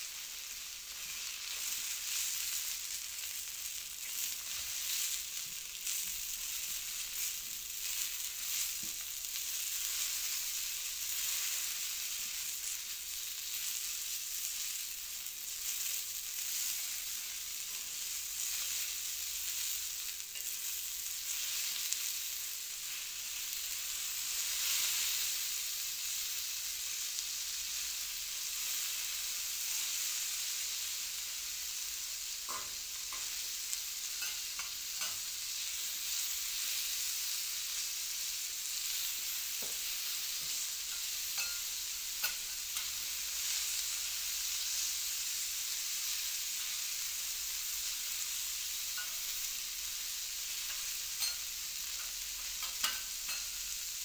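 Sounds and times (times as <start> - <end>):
food sizzling on a griddle: 0.0 - 54.0.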